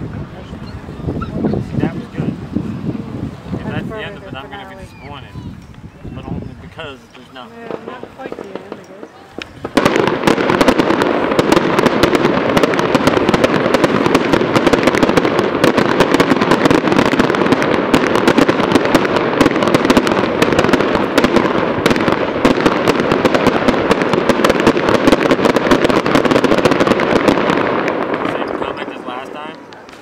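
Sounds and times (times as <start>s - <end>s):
fireworks crackling: 0.0s - 30.0s.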